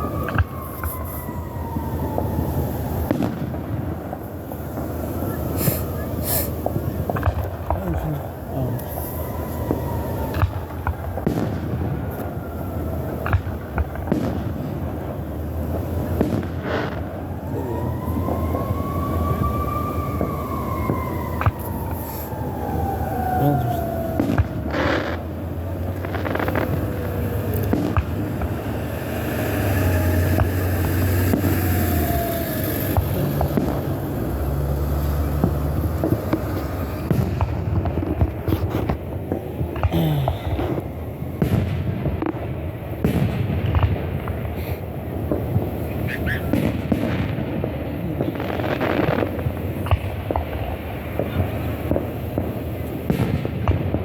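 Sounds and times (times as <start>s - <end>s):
background rumble: 0.0s - 54.0s
fireworks bangs: 0.0s - 54.0s.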